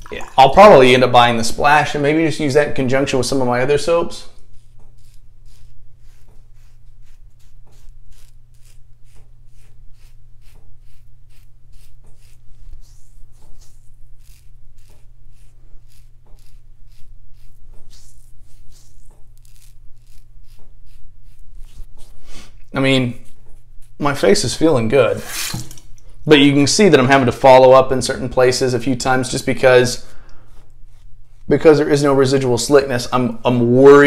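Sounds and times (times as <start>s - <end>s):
razor scraping stubble: 2.4s - 25.9s, 27.0s - 34.0s.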